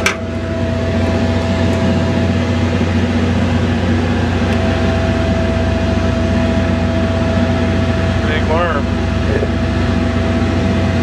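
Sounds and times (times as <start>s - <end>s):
motor humming: 0.0s - 11.0s
thin whine: 0.0s - 11.0s.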